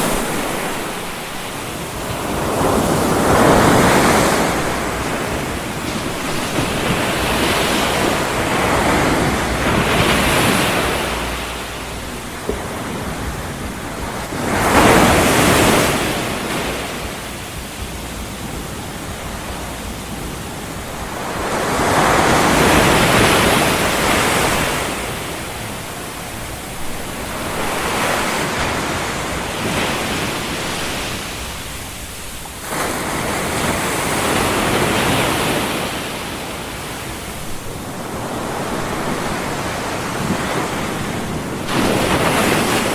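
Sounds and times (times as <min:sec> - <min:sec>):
rushing white noise: 0:00.0 - 0:42.9.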